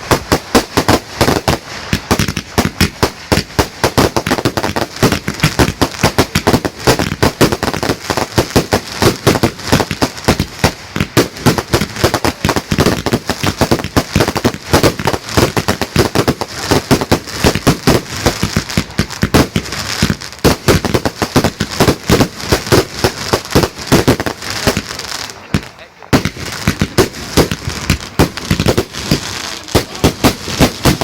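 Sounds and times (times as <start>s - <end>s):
fireworks bangs and cracks: 0.0s - 31.0s.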